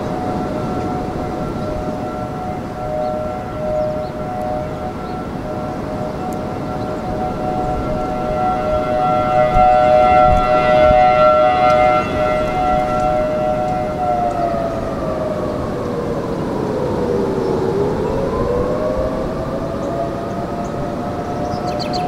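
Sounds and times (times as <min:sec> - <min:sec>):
distant two-tone siren: 0:00.0 - 0:22.0
strong wind noise: 0:00.0 - 0:22.0.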